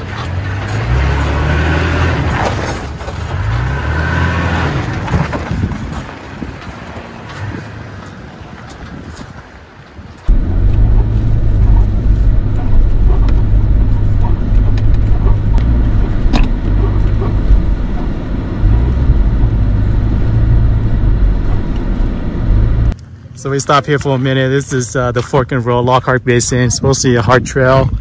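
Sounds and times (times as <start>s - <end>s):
truck engine and tyres rumbling: 0.0s - 28.0s.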